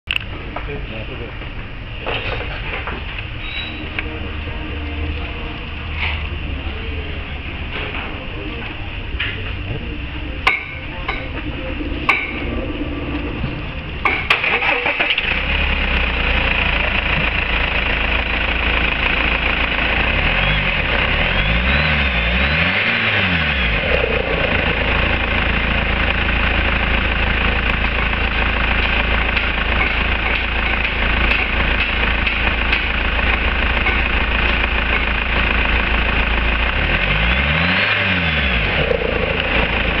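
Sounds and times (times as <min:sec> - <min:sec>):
engine starting and running: 0:00.1 - 0:40.0.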